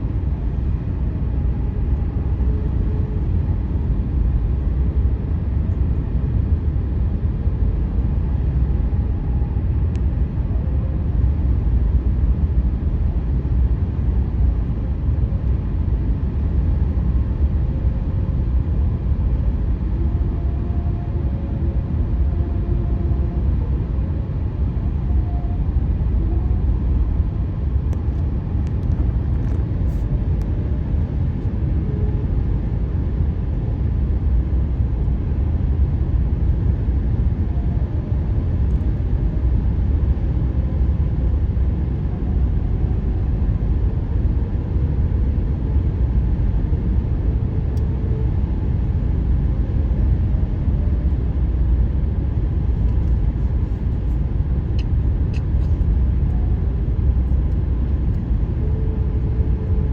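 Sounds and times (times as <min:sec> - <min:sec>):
faint wavering hum: 0:00.0 - 0:59.9.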